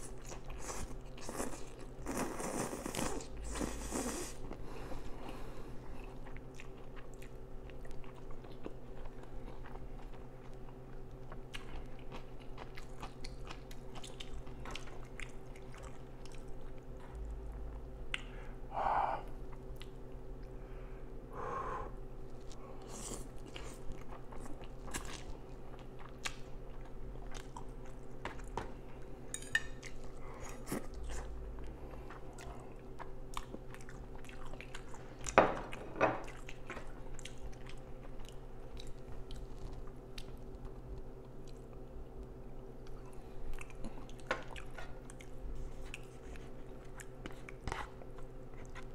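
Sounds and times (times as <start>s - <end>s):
person chewing noodles: 0.0s - 20.6s, 21.6s - 48.9s
low steady hum: 0.0s - 48.9s.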